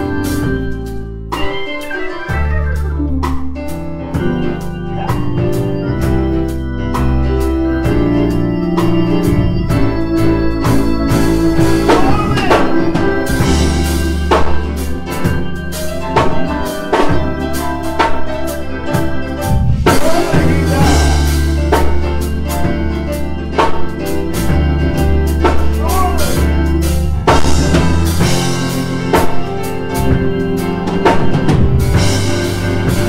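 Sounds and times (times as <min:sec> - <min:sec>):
drum kit: 0:00.0 - 0:33.0
organ chords on keyboards: 0:00.0 - 0:33.0.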